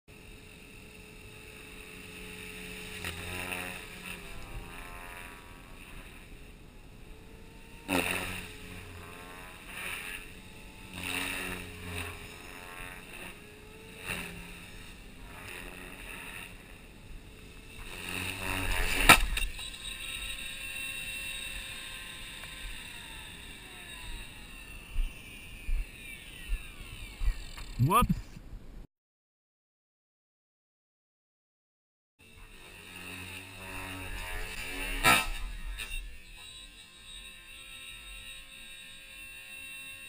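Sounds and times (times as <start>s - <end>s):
rc helicopter rotor and motor whine: 0.1s - 27.8s, 32.2s - 40.0s.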